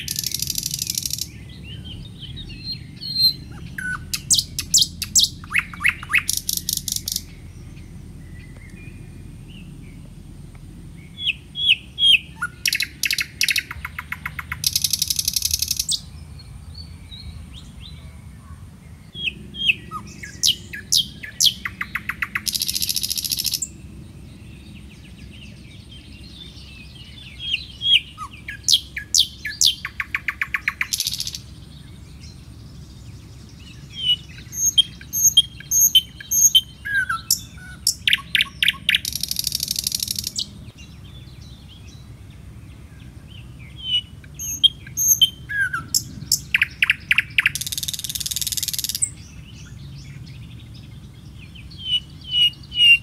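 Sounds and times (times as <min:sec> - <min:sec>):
bird singing chirps and trills: 0:00.0 - 0:53.0
low background noise: 0:00.0 - 0:53.0.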